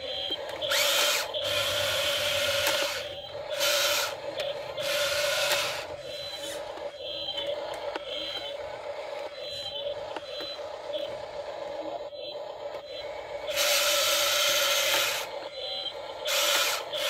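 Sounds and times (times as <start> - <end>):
steady hum: 0.0 - 17.0
toy excavator motors whirring: 0.0 - 17.0.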